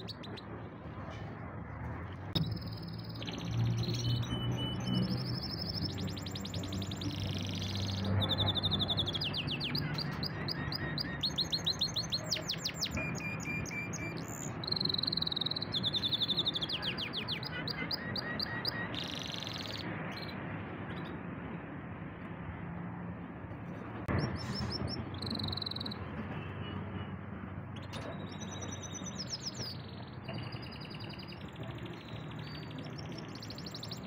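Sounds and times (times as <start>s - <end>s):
canary singing trills: 2.4s - 21.1s, 24.1s - 26.8s, 27.7s - 34.0s.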